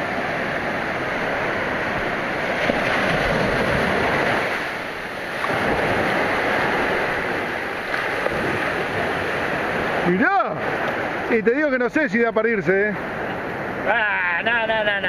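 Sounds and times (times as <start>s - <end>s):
surf waves breaking on beach: 0.0s - 15.0s.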